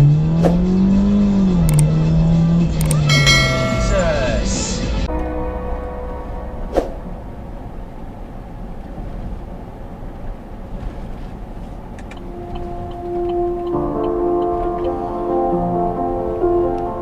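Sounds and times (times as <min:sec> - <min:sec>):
car engine: 0:00.0 - 0:16.8.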